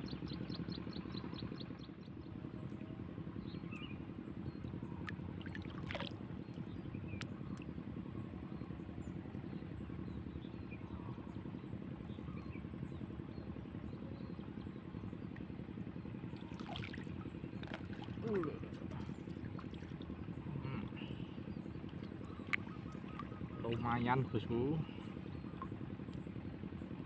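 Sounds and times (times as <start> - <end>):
small engine droning: 0.0 - 27.0.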